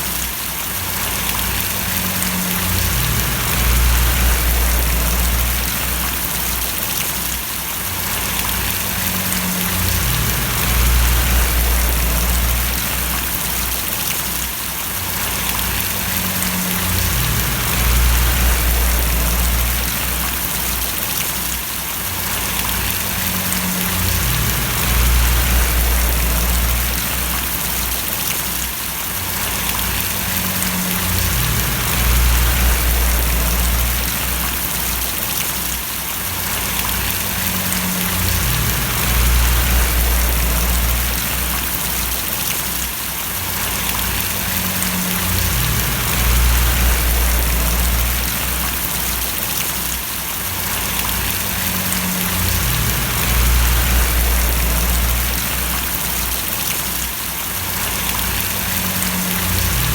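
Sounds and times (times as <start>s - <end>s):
steady rain falling: 0.0s - 59.9s
low rumble: 1.0s - 6.8s, 8.1s - 14.1s, 15.1s - 21.1s, 22.2s - 28.3s, 29.3s - 35.2s, 36.5s - 42.5s, 43.6s - 49.5s, 50.7s - 56.7s, 57.9s - 59.9s.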